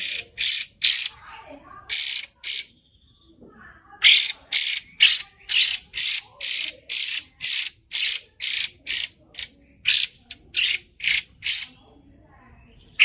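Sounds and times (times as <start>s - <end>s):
bird harsh rasping calls: 0.0s - 2.8s, 4.0s - 11.8s.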